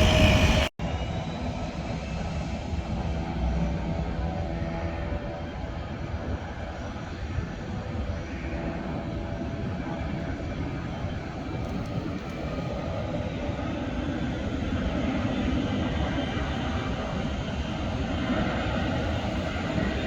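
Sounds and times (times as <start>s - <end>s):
jet airliner engines rumbling: 0.0s - 20.0s.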